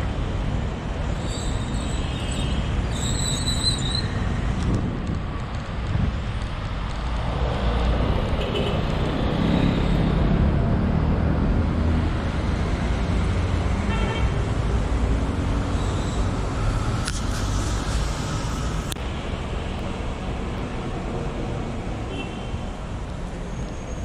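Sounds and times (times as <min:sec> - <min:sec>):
low traffic rumble: 0:00.0 - 0:24.0
car engines passing: 0:03.5 - 0:24.0.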